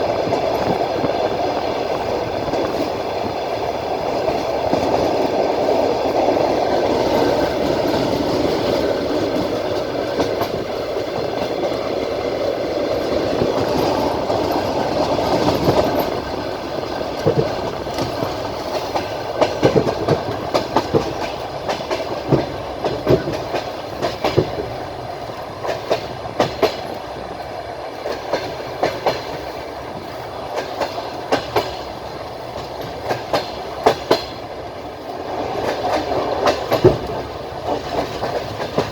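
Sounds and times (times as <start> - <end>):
clickety-clack over rail joints: 0.0 - 38.9
train wheels rumbling on rails: 0.0 - 38.9.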